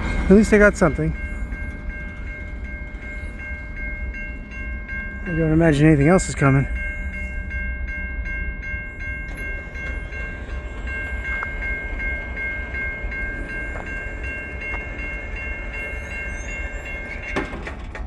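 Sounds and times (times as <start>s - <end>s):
railway crossing bells ringing: 0.0s - 18.0s.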